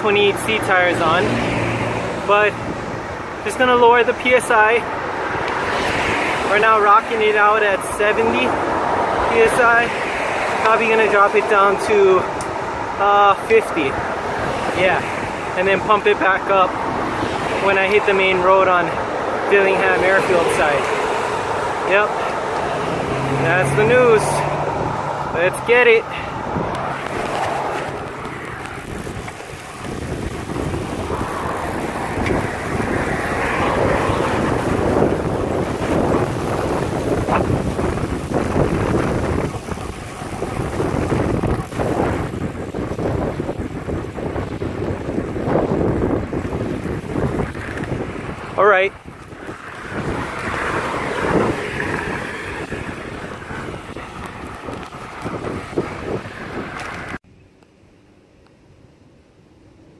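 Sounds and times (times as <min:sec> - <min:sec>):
wind buffeting microphone: 0:00.0 - 0:57.2
bicycle tyre and road noise: 0:00.0 - 0:59.9.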